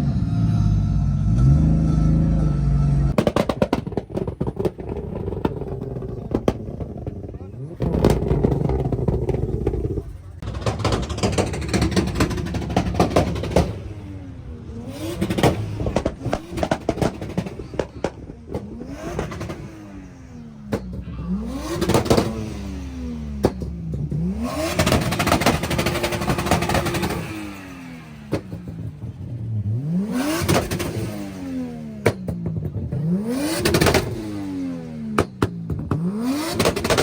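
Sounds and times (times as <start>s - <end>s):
car engine accelerating through gears: 0.0s - 37.0s
exhaust crackles and pops: 1.1s - 37.0s.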